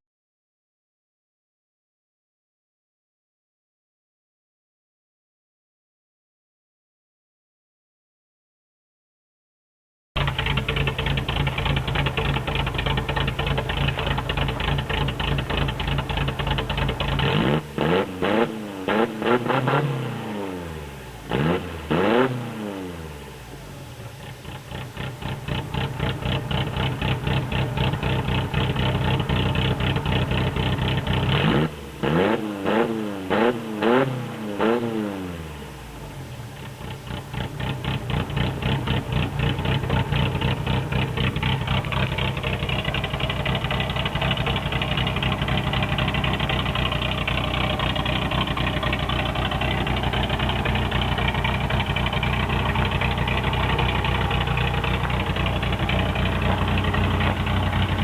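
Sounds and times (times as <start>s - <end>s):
pickup engine idling and revving: 10.2s - 58.0s.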